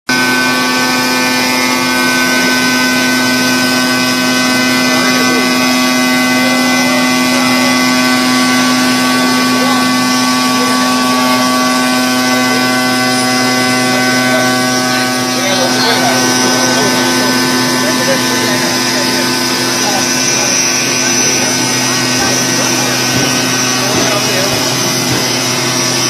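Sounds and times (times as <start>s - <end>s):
cnc router machine hum and whine: 0.1s - 26.0s.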